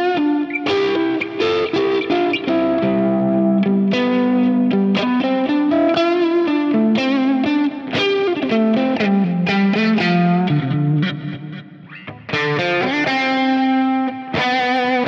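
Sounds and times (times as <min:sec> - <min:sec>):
electric guitar melody: 0:00.0 - 0:15.0
ringing guitar chord: 0:00.0 - 0:15.0.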